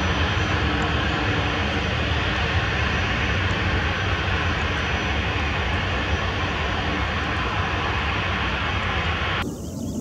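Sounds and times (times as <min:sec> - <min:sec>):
aircraft engine rumble: 0:00.0 - 0:10.0
faint high whine: 0:00.0 - 0:10.0.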